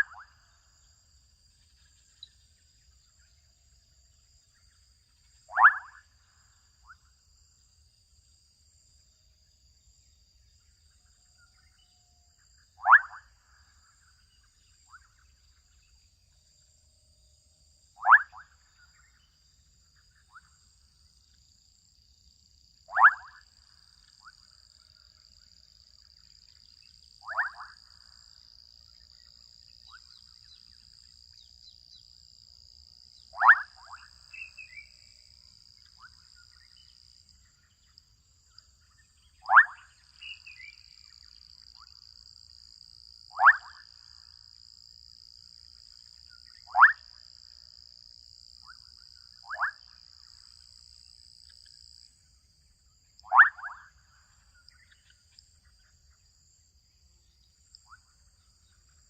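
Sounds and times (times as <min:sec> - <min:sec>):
frogs calling: 0:00.0 - 0:01.3, 0:04.8 - 0:07.2, 0:11.1 - 0:15.6, 0:18.0 - 0:21.3, 0:22.9 - 0:59.0.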